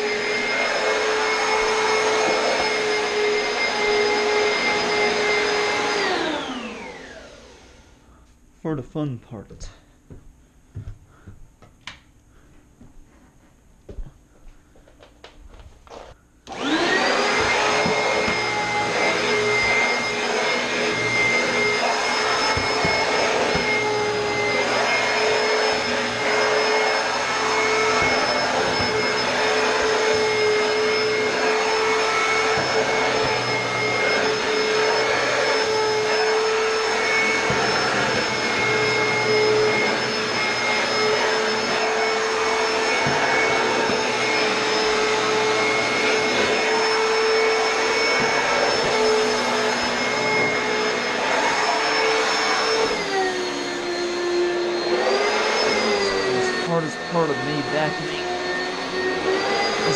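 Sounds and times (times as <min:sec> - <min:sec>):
vacuum cleaner motor whining: 0:00.0 - 0:08.0, 0:15.2 - 0:59.9.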